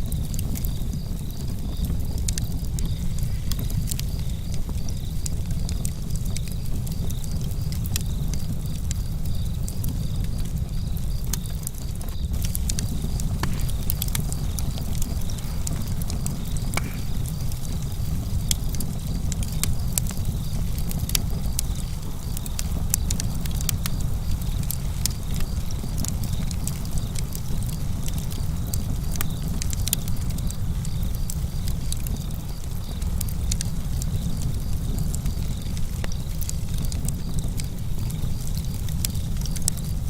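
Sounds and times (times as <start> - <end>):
crickets chirping: 0.0 - 40.0
wood fire crackling and popping: 0.0 - 40.0.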